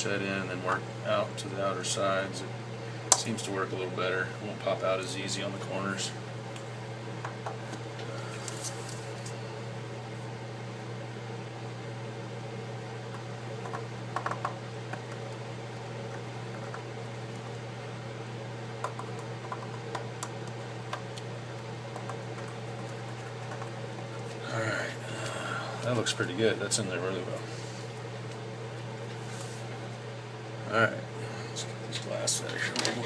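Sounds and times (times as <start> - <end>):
low equipment hum: 0.0 - 33.0.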